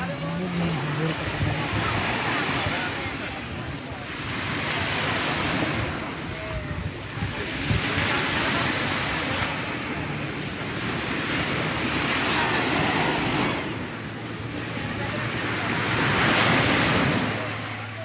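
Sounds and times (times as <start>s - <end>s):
wind buffeting microphone: 0.0s - 17.4s
small waves washing on shore: 0.0s - 18.0s.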